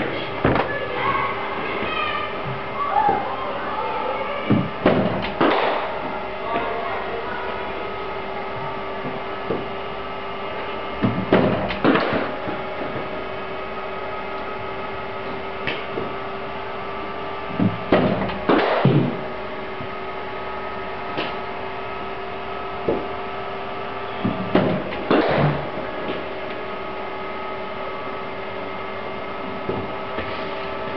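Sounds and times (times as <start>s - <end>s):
steady electrical hum: 0.0s - 30.9s.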